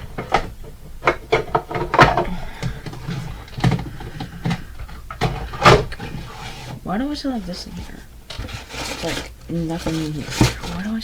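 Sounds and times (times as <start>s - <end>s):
hard objects clattering and knocking: 0.0s - 11.0s.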